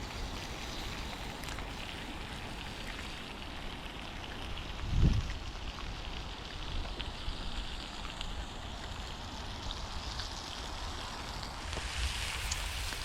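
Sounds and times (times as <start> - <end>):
sausages and bacon sizzling: 0.0 - 13.0.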